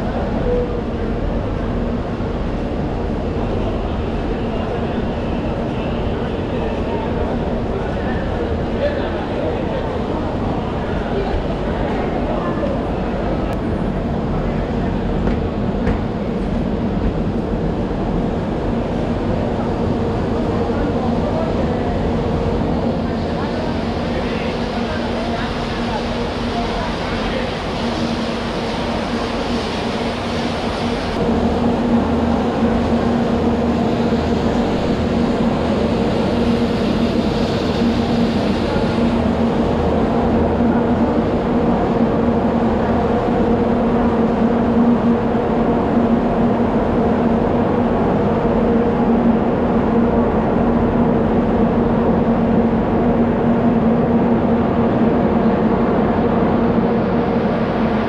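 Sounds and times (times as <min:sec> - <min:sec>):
machinery hum: 0:00.0 - 0:58.0.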